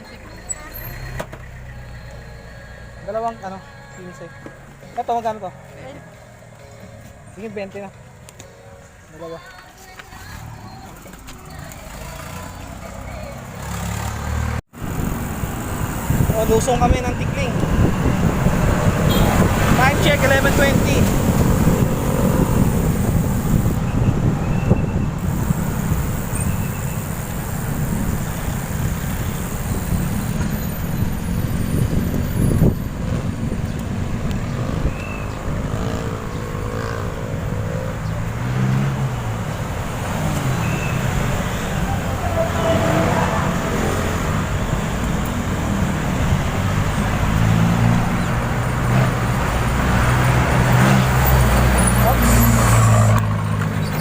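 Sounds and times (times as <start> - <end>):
motor vehicles passing: 0.0 - 54.0
rushing air and tyres: 10.1 - 54.0.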